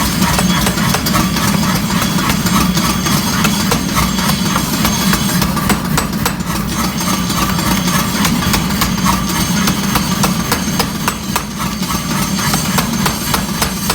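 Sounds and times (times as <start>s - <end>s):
steady motor hum: 0.0s - 13.9s.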